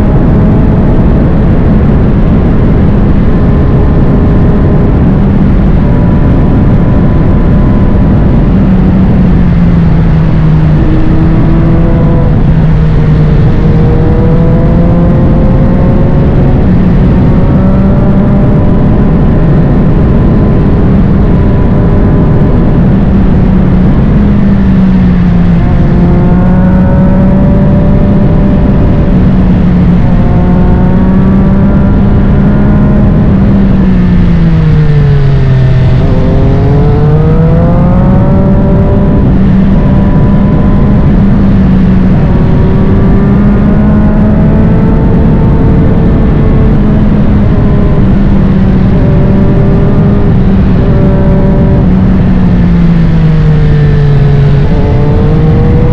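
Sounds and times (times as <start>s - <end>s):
motorcycle engine at speed: 0.0s - 55.9s
wind rush: 0.0s - 55.9s.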